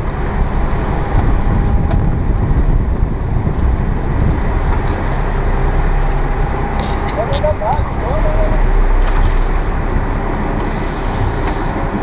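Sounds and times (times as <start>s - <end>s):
boat motor running: 0.0s - 12.0s
wake rushing along hull: 0.0s - 12.0s
wind buffeting microphone: 0.0s - 12.0s.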